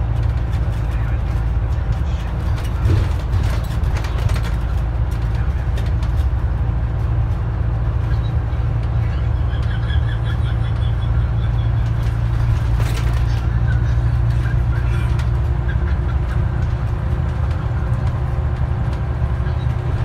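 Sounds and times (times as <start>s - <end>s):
bus body rattles: 0.0s - 20.0s
bus engine and road drone: 0.0s - 20.0s.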